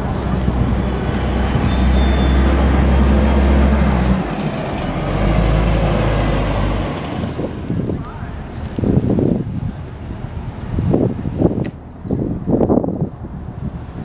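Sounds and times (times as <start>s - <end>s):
bus engine driving past: 0.0s - 14.0s.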